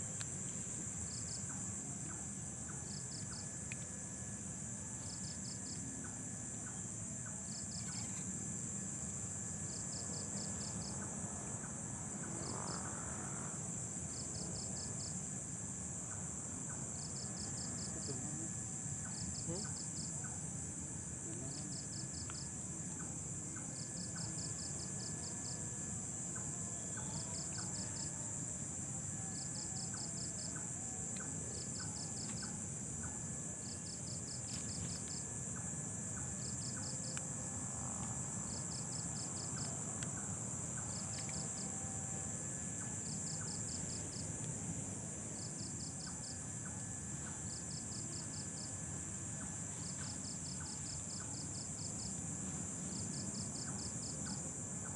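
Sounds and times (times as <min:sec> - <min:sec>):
cricket chirping: 0:00.0 - 0:54.9
high-pitched insect drone: 0:00.0 - 0:54.9.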